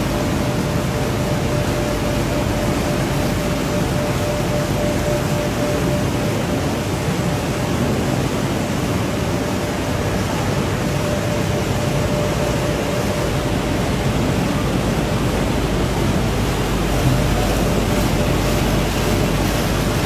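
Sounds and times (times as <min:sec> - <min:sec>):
faint steady hum: 0:00.0 - 0:20.0
production line machinery din: 0:00.0 - 0:20.0.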